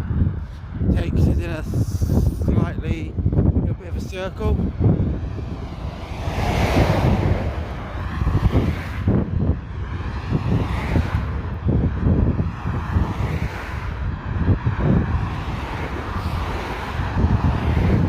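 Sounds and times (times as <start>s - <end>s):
road traffic passing: 0.0s - 18.0s
wind buffeting microphone: 0.0s - 18.0s.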